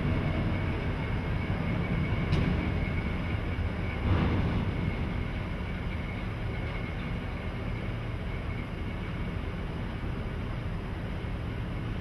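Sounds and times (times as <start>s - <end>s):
locomotive low rumble: 0.0s - 12.0s.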